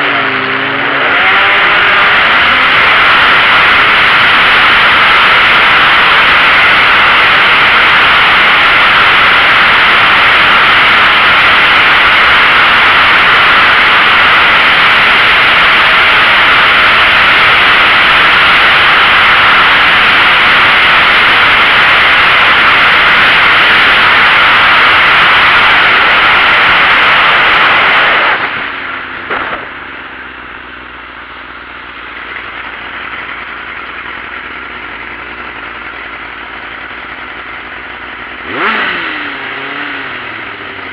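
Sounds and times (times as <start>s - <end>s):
motorbike engine: 0.0s - 40.9s.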